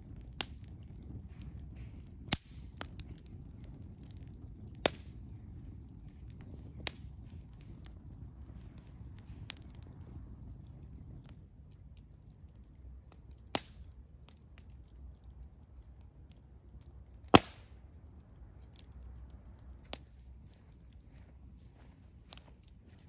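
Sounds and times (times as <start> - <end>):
campfire crackling: 0.0 - 23.0
fire pops: 0.0 - 23.0.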